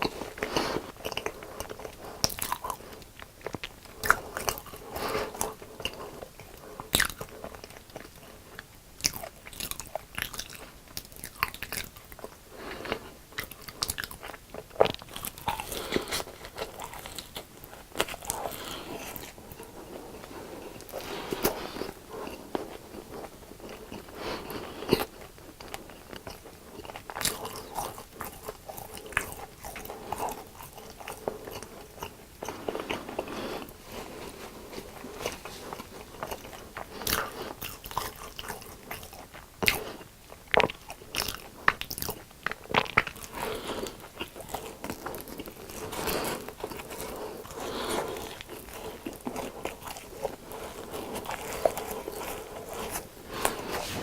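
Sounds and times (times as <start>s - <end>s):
crunchy food chewing: 0.0s - 54.0s.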